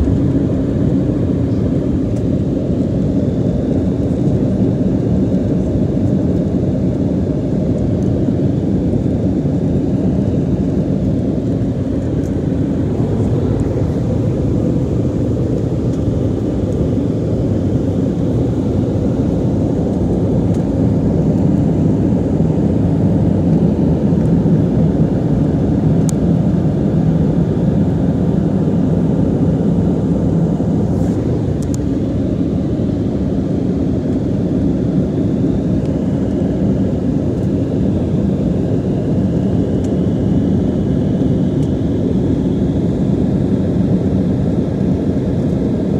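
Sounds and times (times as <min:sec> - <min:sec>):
jet engines rumbling in cabin: 0:00.0 - 0:45.9.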